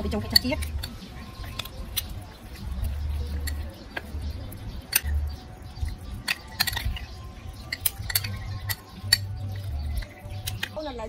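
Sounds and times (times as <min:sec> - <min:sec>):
metal spoons clinking on bowl: 0:00.0 - 0:04.1, 0:04.8 - 0:10.8.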